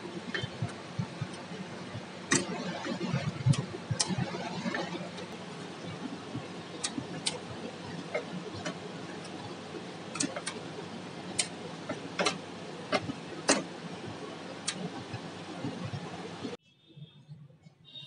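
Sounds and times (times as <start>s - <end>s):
machine humming: 0.0s - 16.6s.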